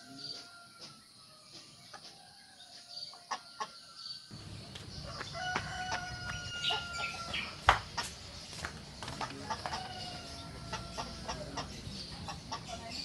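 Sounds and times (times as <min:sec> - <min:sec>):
chickens clucking: 0:00.0 - 0:13.0
roosters crowing: 0:00.0 - 0:13.0.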